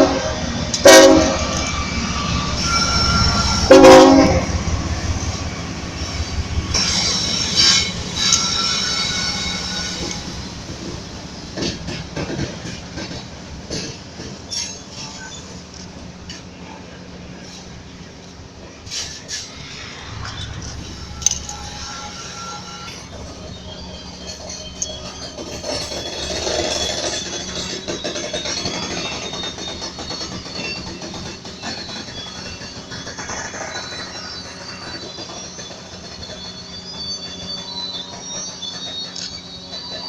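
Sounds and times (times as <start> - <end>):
low locomotive engine hum: 0.0 - 40.0
steel wheels squealing: 0.4 - 40.0
metallic clanks from train cars: 0.6 - 40.0.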